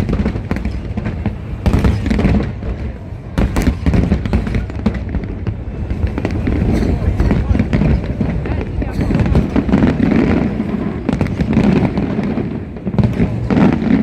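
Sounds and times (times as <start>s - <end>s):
continuous low rumble: 0.0s - 14.0s
fireworks bangs and crackles: 0.0s - 14.0s.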